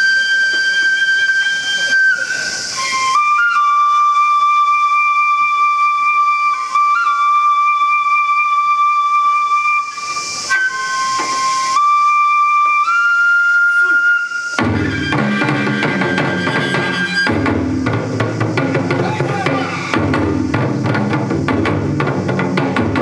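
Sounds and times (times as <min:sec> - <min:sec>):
bamboo flute long high notes: 0:00.0 - 0:20.6.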